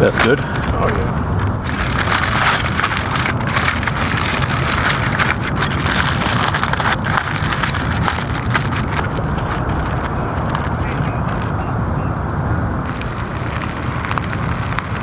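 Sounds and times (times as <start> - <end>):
aluminium foil crinkling: 0.0 - 11.6, 12.9 - 15.0
steady low rumble: 0.0 - 15.0.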